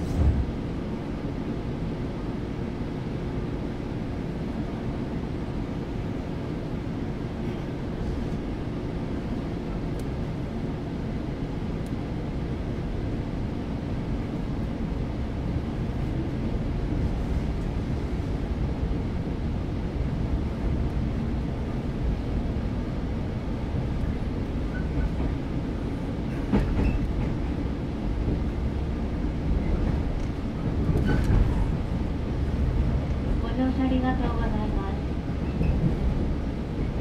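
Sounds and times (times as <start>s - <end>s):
train wheel rumble: 0.0s - 37.0s.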